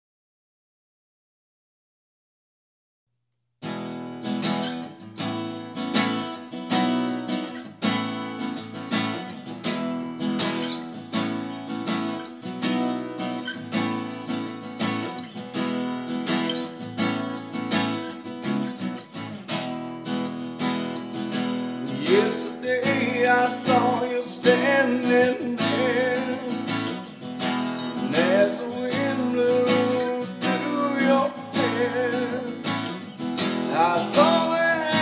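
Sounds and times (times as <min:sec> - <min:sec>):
acoustic guitar strumming: 0:03.6 - 0:35.0.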